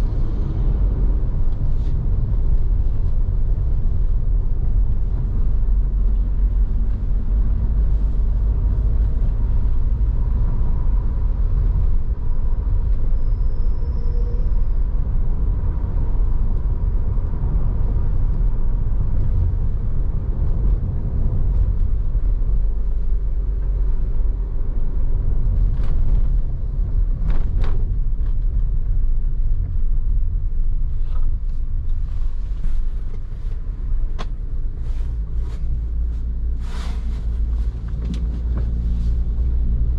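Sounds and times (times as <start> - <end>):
road and traffic rumble: 0.0 - 39.9.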